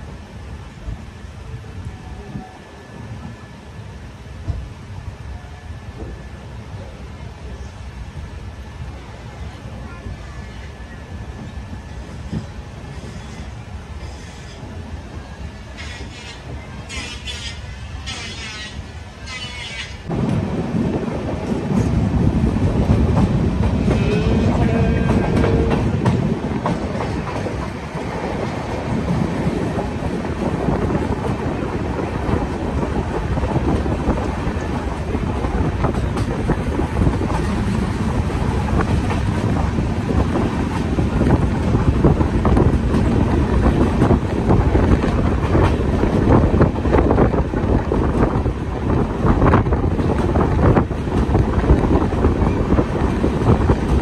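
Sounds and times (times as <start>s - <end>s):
train rumbling along track: 0.0s - 54.0s.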